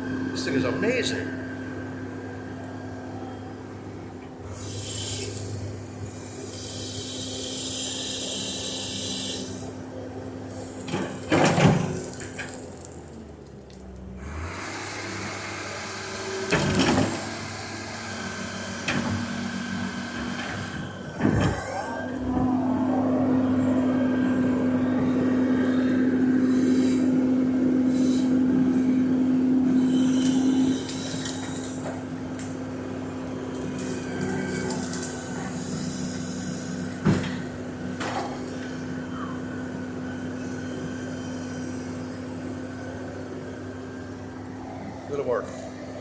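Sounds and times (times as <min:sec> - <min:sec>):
excavator engine running: 0:00.0 - 0:46.0.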